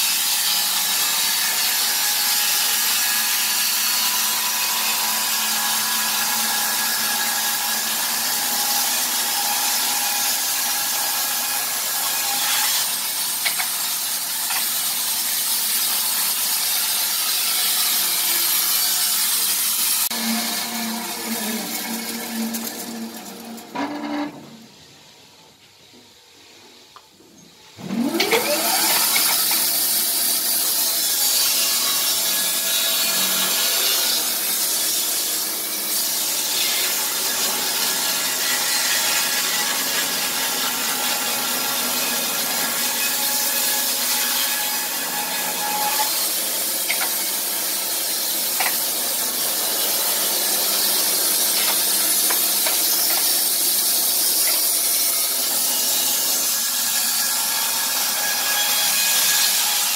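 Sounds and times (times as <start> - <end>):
band sawmill cutting log: 0.0 - 24.3, 27.8 - 59.9.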